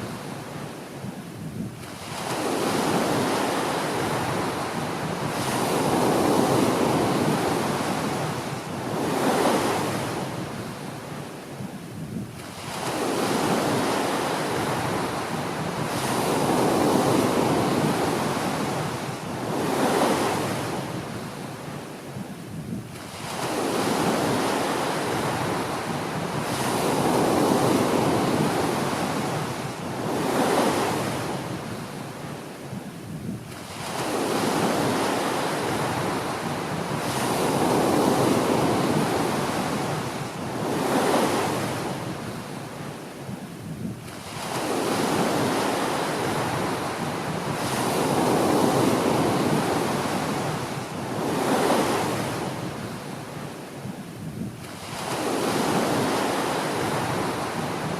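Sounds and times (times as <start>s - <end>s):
small waves washing up beach: 0.0s - 57.9s.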